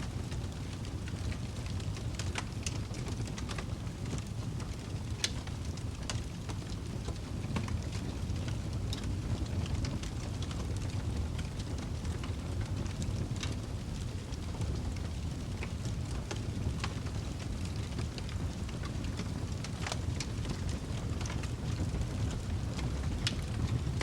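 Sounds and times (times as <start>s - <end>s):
fire crackles and pops: 0.0s - 24.0s
low rumble of flames: 0.0s - 24.0s.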